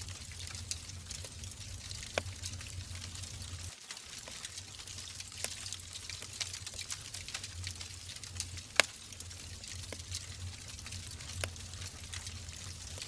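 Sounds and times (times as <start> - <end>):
low steady rumble: 0.0 - 3.7, 4.6 - 13.0
wood fire crackling and popping: 0.0 - 13.0.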